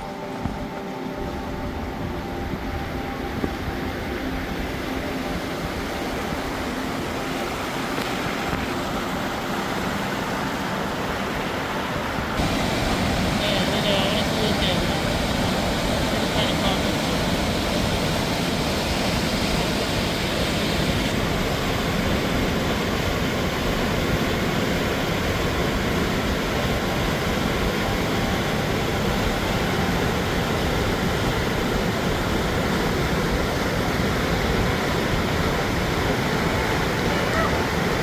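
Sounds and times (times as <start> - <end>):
river and falls rushing: 0.0 - 38.0.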